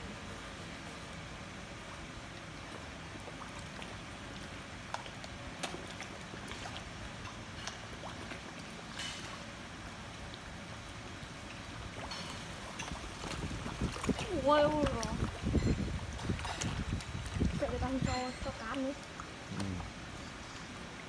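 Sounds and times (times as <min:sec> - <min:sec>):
water splashing and lapping: 0:00.4 - 0:21.0.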